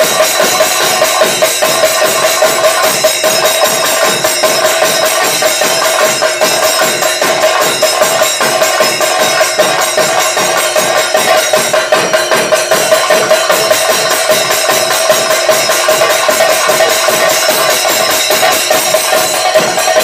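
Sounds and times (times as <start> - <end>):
drums struck with sticks: 0.0 - 20.0
hand cymbals ringing: 0.0 - 20.0.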